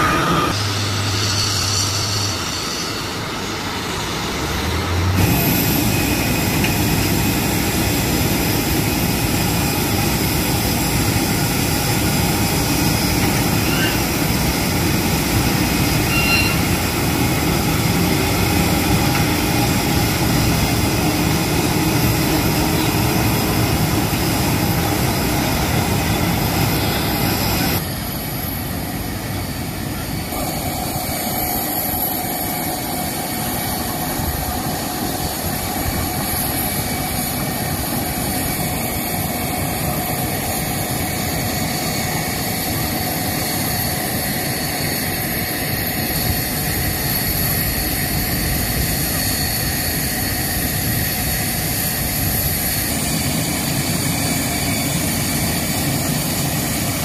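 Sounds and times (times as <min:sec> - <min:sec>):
jet engine whine and rumble: 0:00.0 - 0:57.0.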